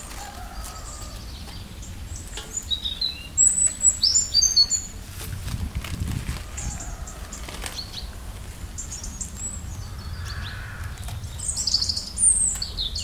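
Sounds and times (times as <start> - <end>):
low outdoor rumble: 0.0 - 13.0
songbirds chirping: 0.0 - 13.0.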